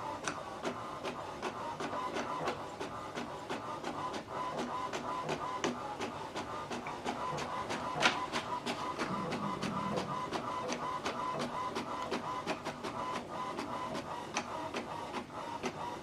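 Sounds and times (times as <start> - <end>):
inkjet printer printing: 0.0 - 16.0.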